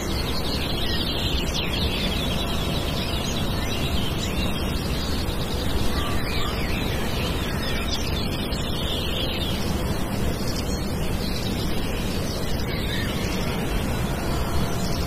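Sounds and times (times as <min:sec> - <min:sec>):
small birds chirping: 0:00.0 - 0:15.0
steady rushing noise: 0:00.0 - 0:15.0.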